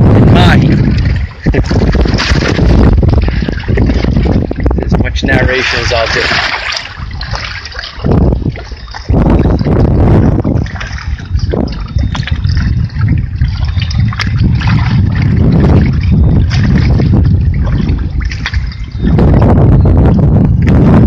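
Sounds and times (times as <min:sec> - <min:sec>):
water lapping against boat hull: 0:00.0 - 0:21.0
wind buffeting microphone: 0:00.0 - 0:21.0.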